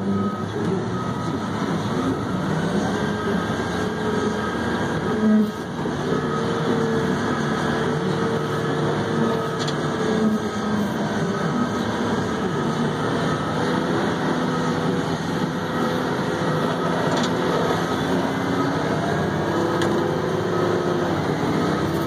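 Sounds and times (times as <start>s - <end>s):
truck diesel engine drone: 0.0s - 22.0s.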